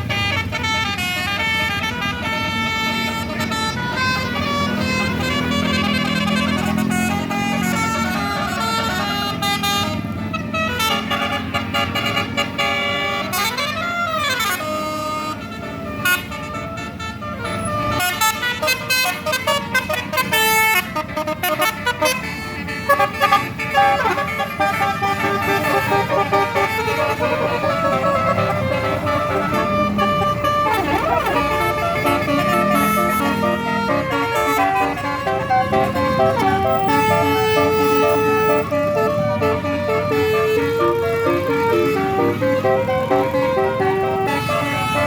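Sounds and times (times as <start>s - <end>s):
multi-tone bus horns playing: 0.0s - 45.0s.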